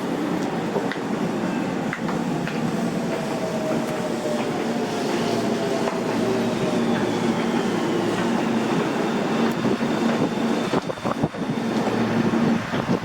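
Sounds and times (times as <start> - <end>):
electric train rumbling: 0.0 - 13.0
train motor whine: 1.5 - 13.0.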